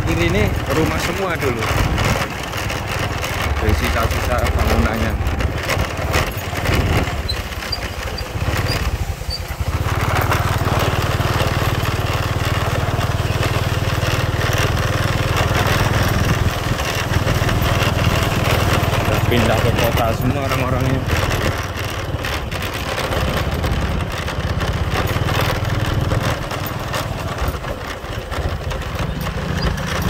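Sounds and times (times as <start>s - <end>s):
small motorcycle engine running: 0.0s - 30.0s.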